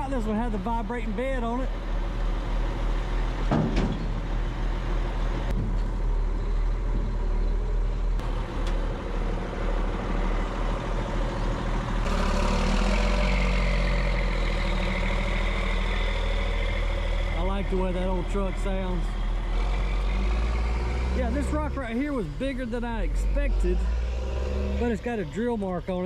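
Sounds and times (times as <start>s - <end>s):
dump truck running: 0.0s - 26.0s.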